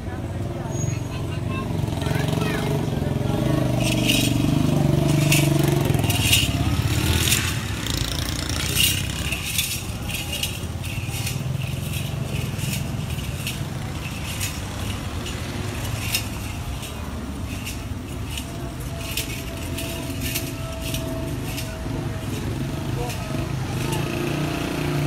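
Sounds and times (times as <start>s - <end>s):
bull's neck ornaments jingling: 1.8s - 25.0s.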